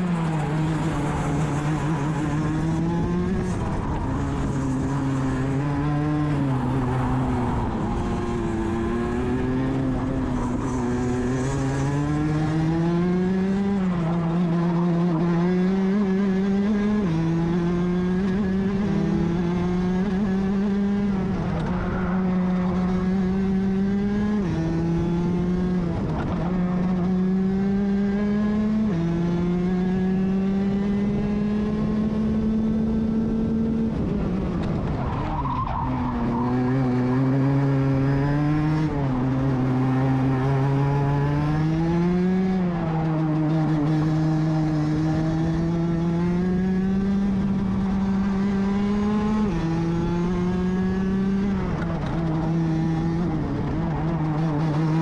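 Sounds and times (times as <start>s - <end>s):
kart engine at racing speed: 0.0s - 55.0s.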